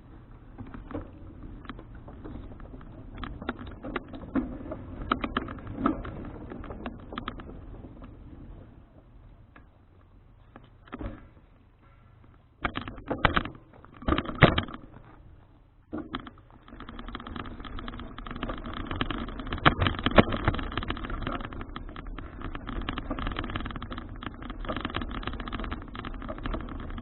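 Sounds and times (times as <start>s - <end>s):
bicycle jolts: 0.0s - 27.0s
bicycle rattling over road: 0.0s - 27.0s.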